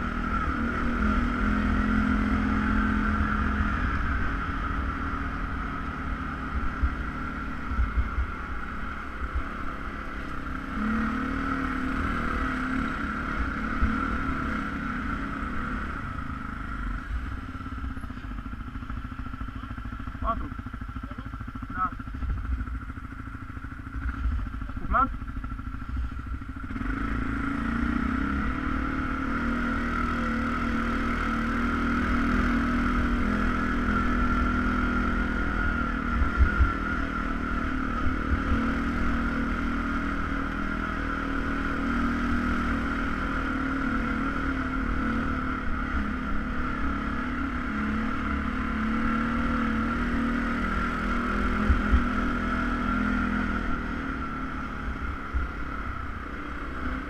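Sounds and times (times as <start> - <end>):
atv engine droning: 0.0 - 57.0.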